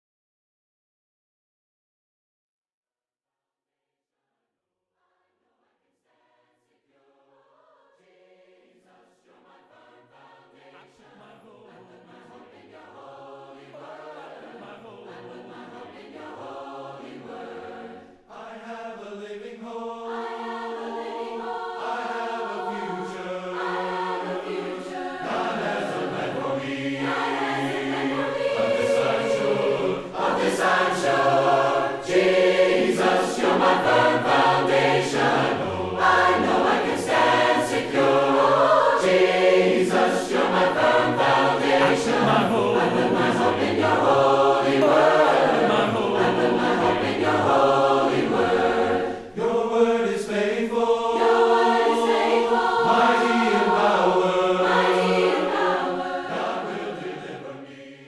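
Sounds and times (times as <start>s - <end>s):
choir singing: 6.1s - 58.0s.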